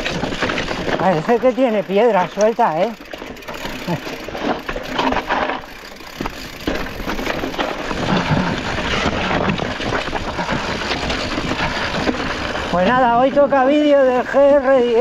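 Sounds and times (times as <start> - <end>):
bike rattling: 0.0 - 15.0
bike tyres crunching over stones: 0.0 - 15.0.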